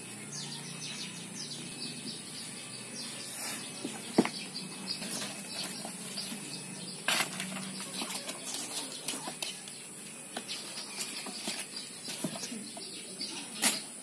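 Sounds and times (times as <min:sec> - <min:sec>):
kittens chirping: 0:00.0 - 0:14.0.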